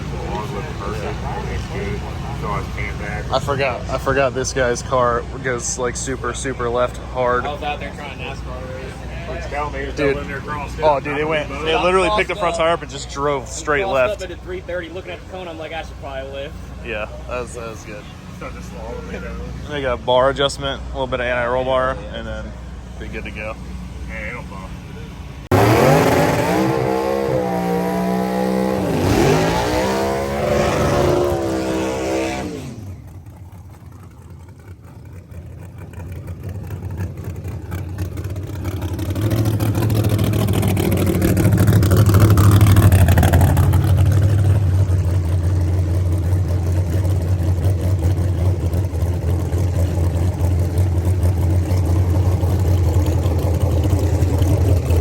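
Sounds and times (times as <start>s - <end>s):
low engine drone: 0.0s - 55.0s
race car engine revving: 0.0s - 55.0s.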